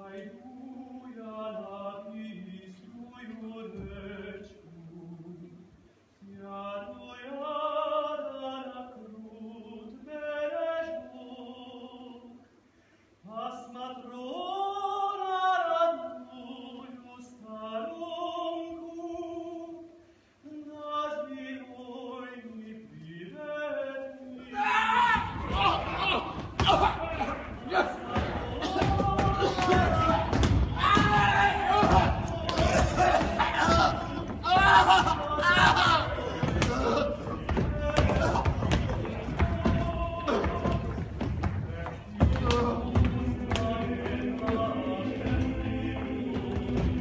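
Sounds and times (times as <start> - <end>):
man singing unaccompanied: 0.0 - 5.6, 6.2 - 12.4, 13.2 - 47.0.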